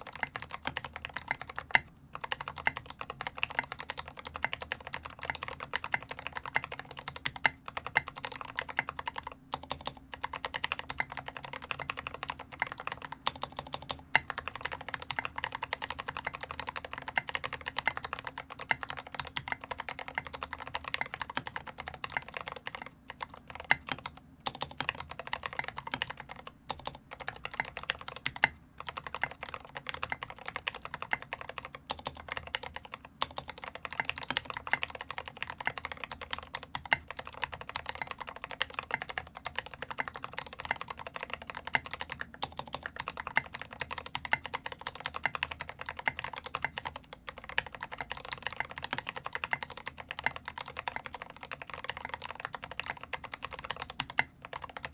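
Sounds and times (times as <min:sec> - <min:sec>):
fast typing on mechanical keyboard: 0:00.0 - 0:54.9.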